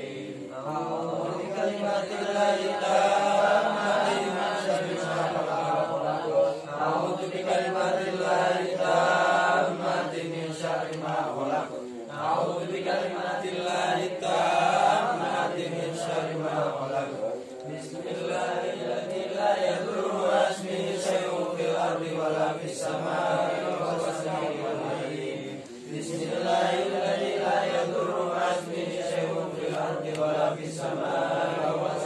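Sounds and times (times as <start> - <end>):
men chanting together: 0.0 - 32.0.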